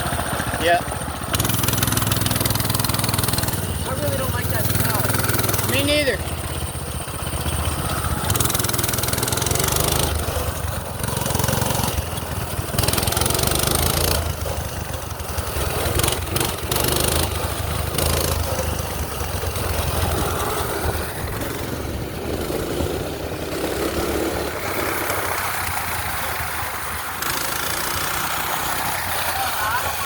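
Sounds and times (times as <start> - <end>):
small gasoline engine running: 0.0 - 30.0.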